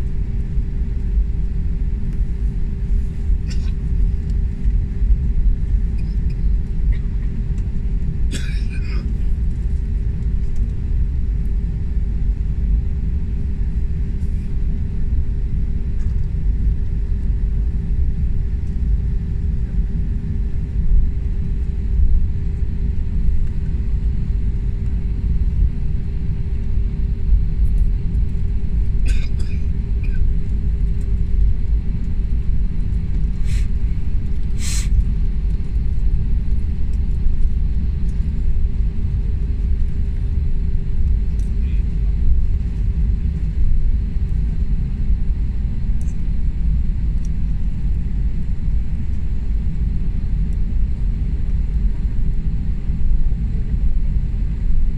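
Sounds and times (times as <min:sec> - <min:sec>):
airliner cabin rumble: 0:00.0 - 0:54.9
constant hum: 0:00.0 - 0:54.9.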